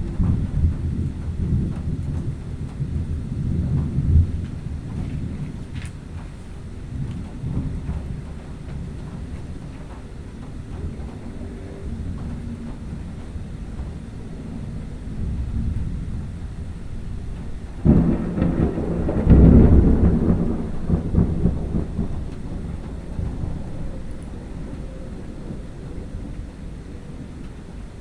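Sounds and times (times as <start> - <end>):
loud thunder crack: 0.0 - 6.2, 6.8 - 28.0
thunder rumbling: 0.0 - 28.0.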